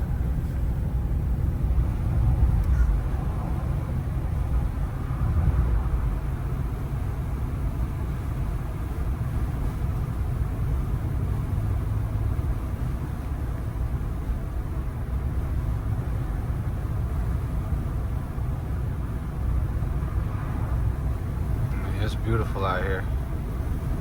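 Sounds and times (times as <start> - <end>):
truck cab road rumble: 0.0 - 24.0.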